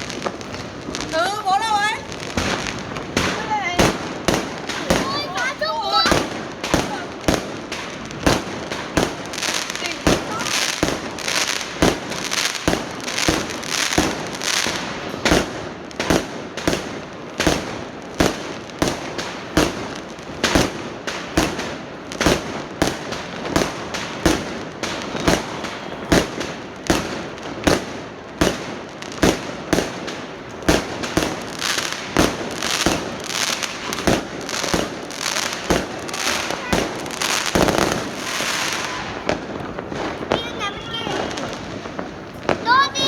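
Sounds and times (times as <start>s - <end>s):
fireworks bangs: 0.0s - 43.0s
fireworks crackle: 0.0s - 43.0s.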